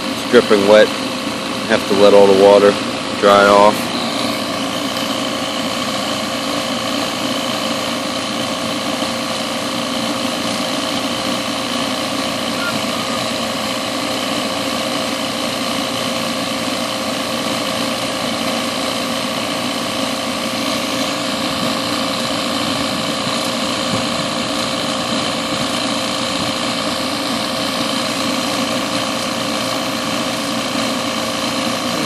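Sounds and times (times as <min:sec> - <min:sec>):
recovery machine humming: 0:00.0 - 0:32.0.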